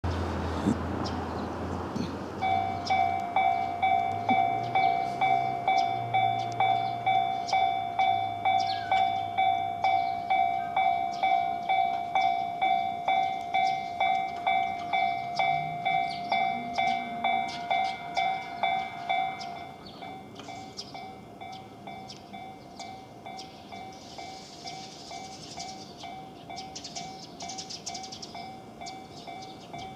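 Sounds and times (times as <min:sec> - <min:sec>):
level crossing warning bell: 0:02.4 - 0:29.9.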